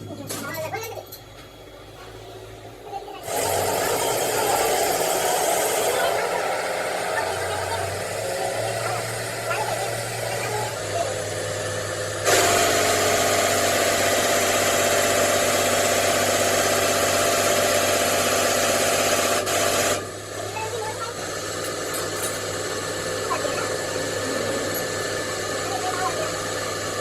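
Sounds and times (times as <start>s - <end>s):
workshop machine whirring: 0.0s - 27.0s.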